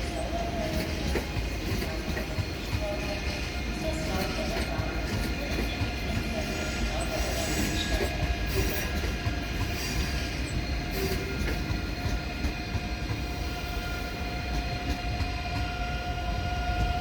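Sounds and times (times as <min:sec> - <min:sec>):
train high-pitched whine: 0:00.0 - 0:17.0
train low rumble: 0:00.0 - 0:17.0.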